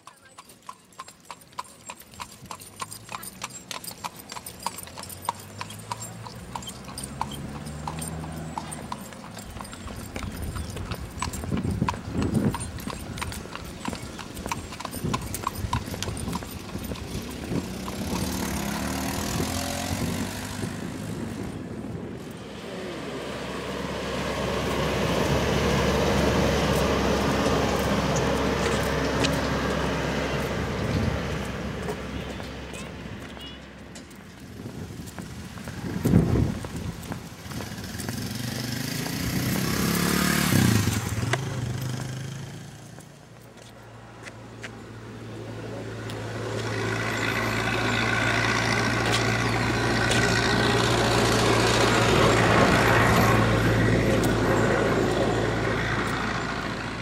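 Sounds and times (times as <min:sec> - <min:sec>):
hooves clip-clopping on pavement: 0:00.0 - 0:57.0
road train engine rumble: 0:00.0 - 0:57.0.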